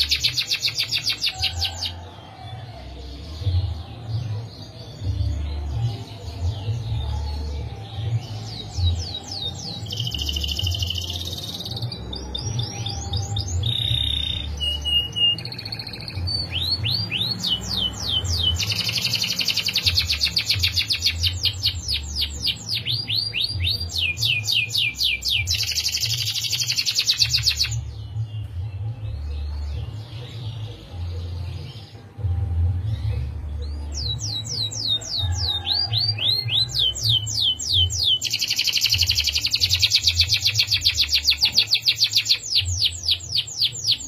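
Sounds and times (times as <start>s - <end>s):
canary singing trills: 0.0s - 2.4s, 3.0s - 44.0s.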